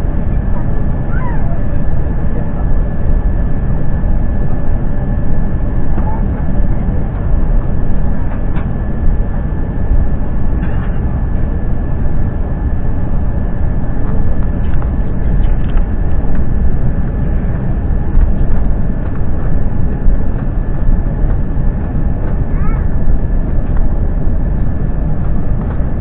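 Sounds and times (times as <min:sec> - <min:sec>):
jet engine and wheel rumble: 0:00.0 - 0:26.0
thin steady whine: 0:00.0 - 0:26.0.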